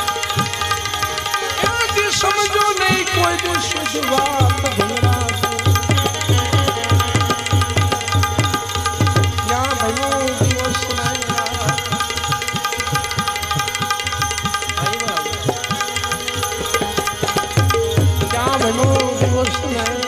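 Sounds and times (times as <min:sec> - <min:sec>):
harmonium holding notes: 0:00.0 - 0:20.0
man singing: 0:01.4 - 0:13.1, 0:14.4 - 0:20.0.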